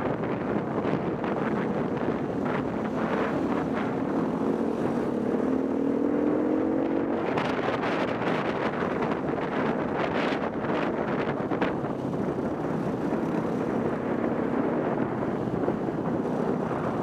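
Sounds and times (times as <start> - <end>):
motorcycle engine at speed: 0.0 - 17.0
wind on microphone: 0.0 - 17.0.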